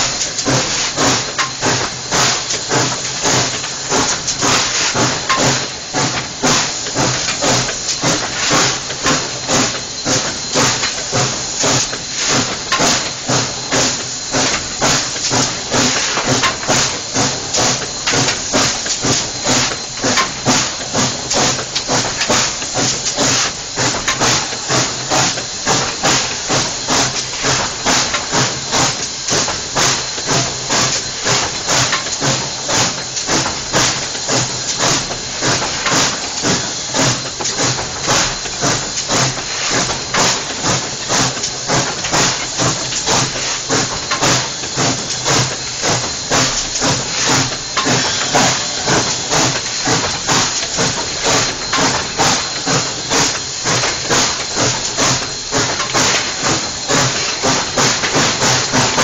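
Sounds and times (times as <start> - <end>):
steam hiss: 0.0 - 59.0
steam locomotive exhaust beats: 0.0 - 59.0.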